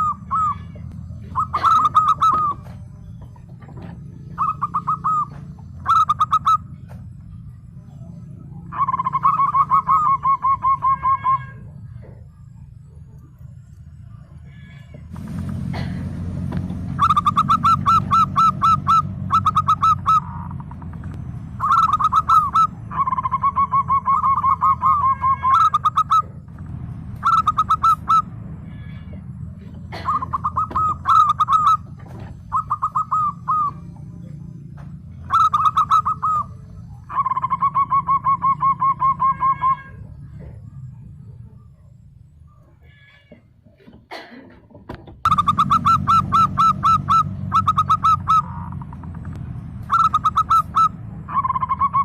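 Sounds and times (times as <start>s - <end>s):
doves cooing: 0.0s - 42.7s, 43.7s - 52.0s.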